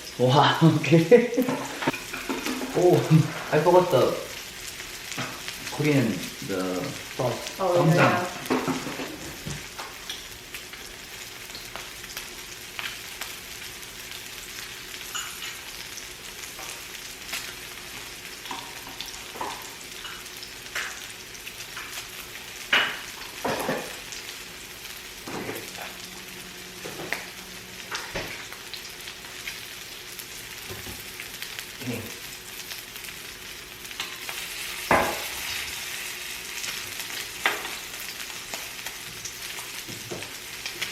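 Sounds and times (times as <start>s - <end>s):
meat sizzling on a grill: 0.0s - 40.9s.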